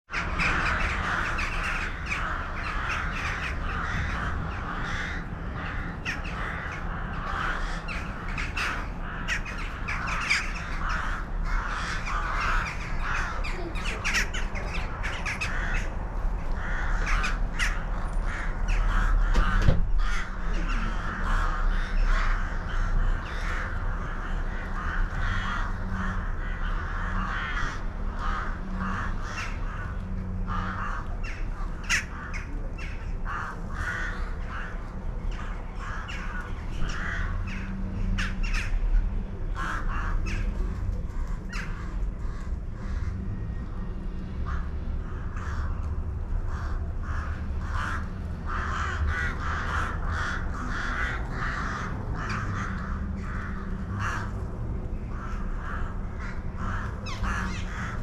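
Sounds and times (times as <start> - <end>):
flock of birds calling: 0.1 - 58.0.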